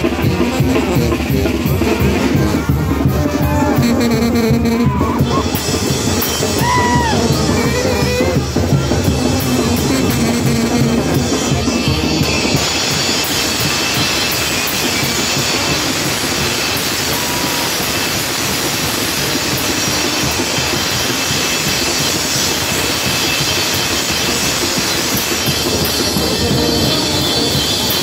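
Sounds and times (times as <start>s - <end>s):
brass band with bass drums: 0.0s - 28.0s.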